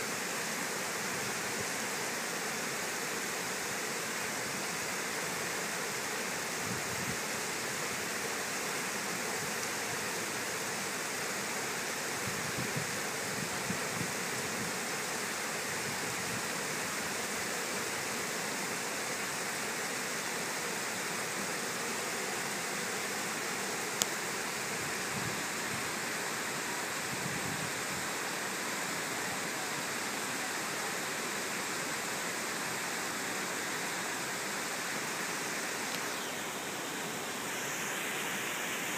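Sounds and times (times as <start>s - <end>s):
water rushing over dam: 0.0s - 38.9s.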